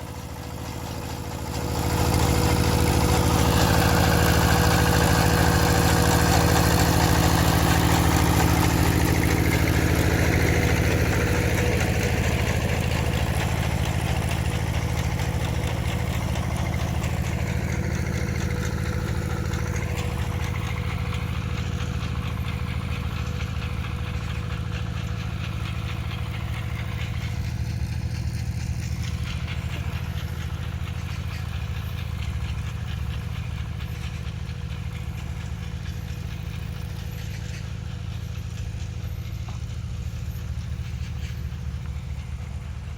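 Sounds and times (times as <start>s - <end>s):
farm machine engine humming: 0.0s - 42.9s.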